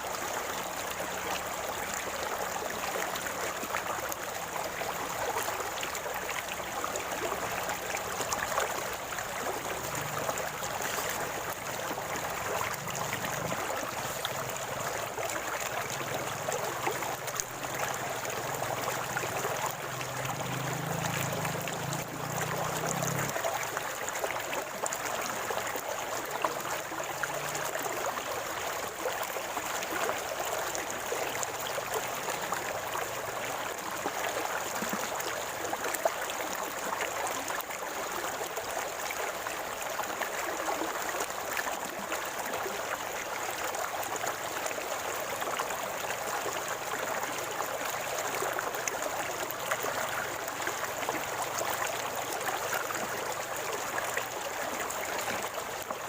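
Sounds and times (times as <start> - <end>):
creek water gurgling over rocks: 0.0 - 56.0.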